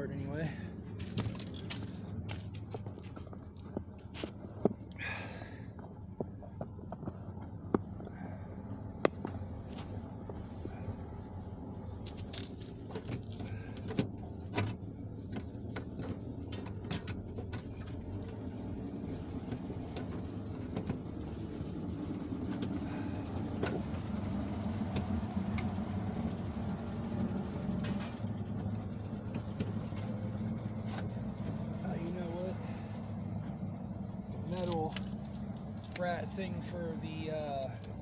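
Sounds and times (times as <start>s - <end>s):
low vehicle rumble: 0.0s - 38.0s.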